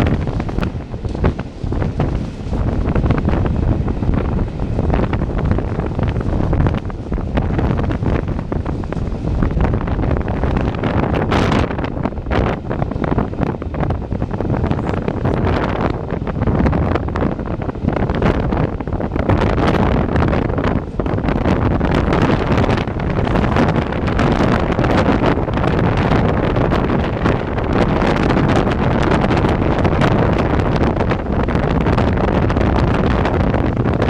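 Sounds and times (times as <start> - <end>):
train rumbling on track: 0.0 - 34.0
wind buffeting microphone: 0.0 - 34.0.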